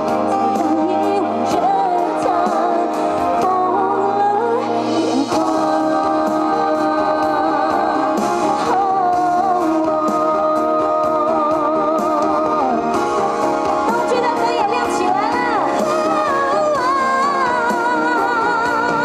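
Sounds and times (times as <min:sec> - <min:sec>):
pop ballad over loudspeakers: 0:00.0 - 0:19.0
woman singing: 0:00.0 - 0:19.0.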